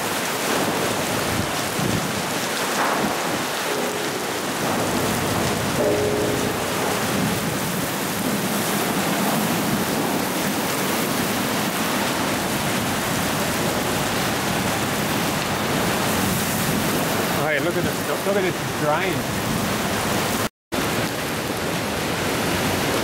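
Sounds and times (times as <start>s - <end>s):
heavy rain on pavement: 0.0s - 23.0s
wind: 0.0s - 23.0s.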